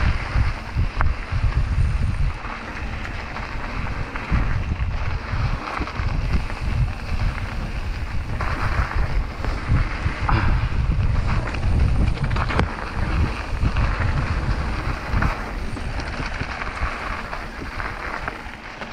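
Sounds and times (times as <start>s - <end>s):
tyres rolling on dirt trail: 0.0s - 18.9s
wind buffeting microphone: 0.0s - 18.9s.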